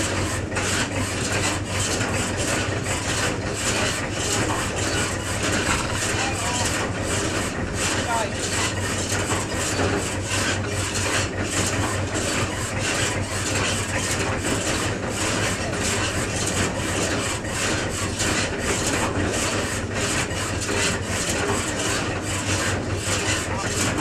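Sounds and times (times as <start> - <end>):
fast rasping clatter: 0.0 - 24.0
tractor engine idling: 0.0 - 24.0.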